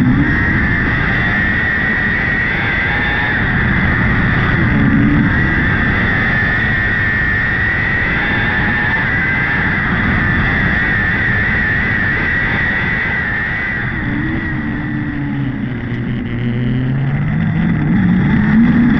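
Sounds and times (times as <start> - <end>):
motorcycle engine at high revs: 0.0 - 18.9.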